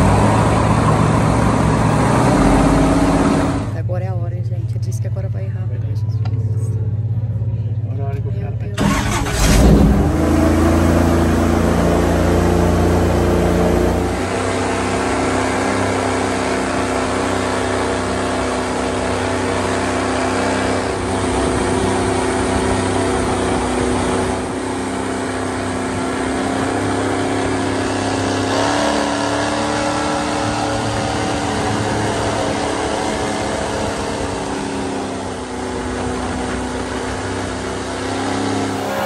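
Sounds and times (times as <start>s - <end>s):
airboat engine drone: 0.0s - 39.0s.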